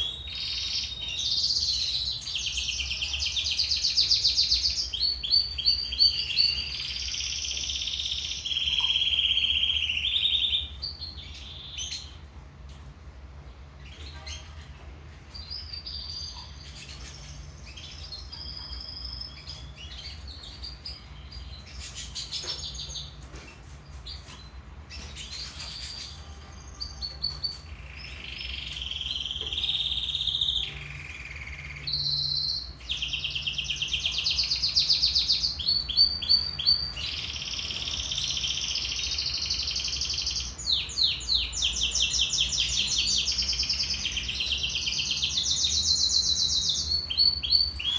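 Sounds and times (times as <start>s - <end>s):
canary singing: 0.0s - 12.7s, 13.3s - 47.9s.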